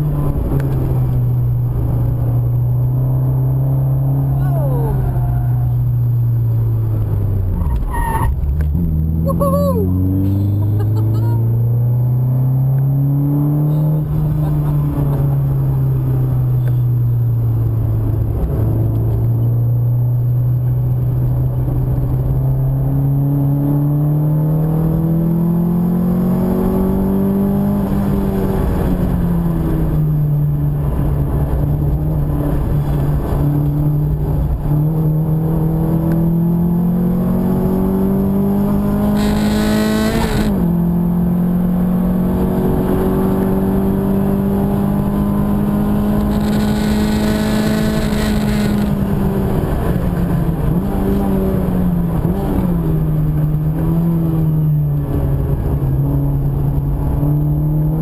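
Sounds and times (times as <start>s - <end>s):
car engine accelerating: 0.0s - 58.0s
road noise: 0.0s - 58.0s.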